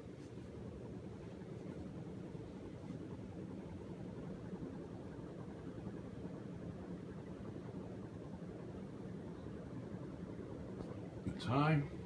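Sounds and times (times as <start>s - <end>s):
ceiling fan rushing air: 0.0s - 12.0s.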